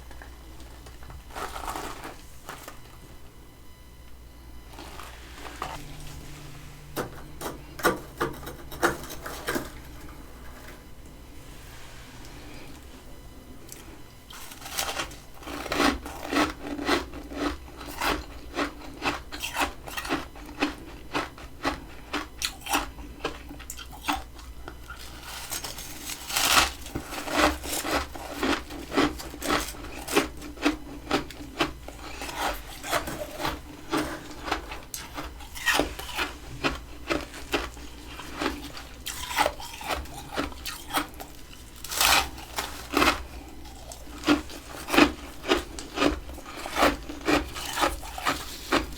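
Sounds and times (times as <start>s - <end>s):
freezer frost crunching: 0.0s - 3.4s, 4.0s - 48.9s.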